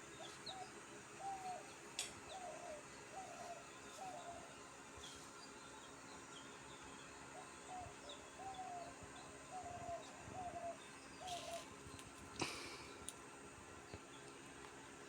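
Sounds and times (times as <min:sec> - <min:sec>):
caged birds calling low notes: 0:00.0 - 0:15.0
faint steady hum: 0:00.0 - 0:15.0.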